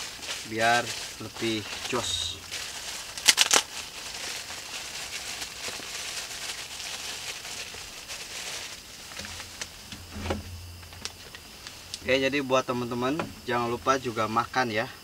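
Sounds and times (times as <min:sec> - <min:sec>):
plastic bag rustling: 0:00.0 - 0:14.5.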